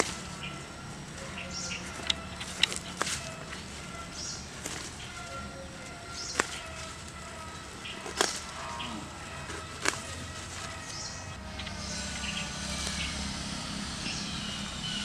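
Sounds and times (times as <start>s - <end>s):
leaf stalks snapping: 0.0s - 13.9s
steady background hum: 0.0s - 15.0s.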